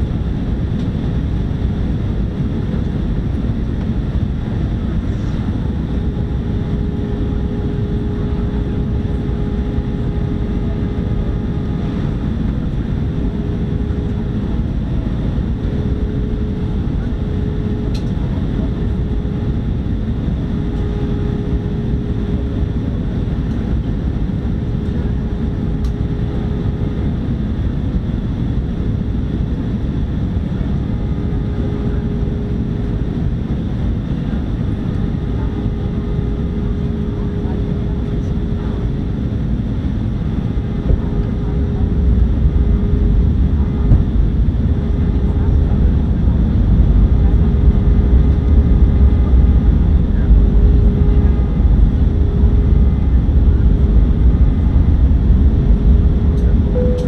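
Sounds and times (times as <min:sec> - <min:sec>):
airflow and engine noise: 0:00.0 - 0:57.0
steady hum-like tone: 0:00.0 - 0:57.0.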